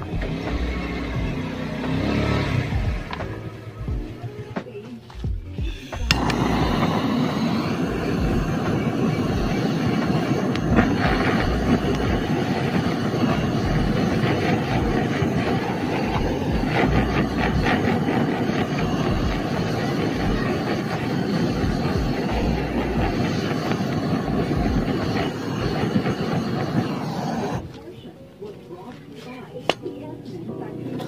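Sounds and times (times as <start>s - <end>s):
blowtorch hissing: 0.0s - 4.4s, 5.6s - 28.1s.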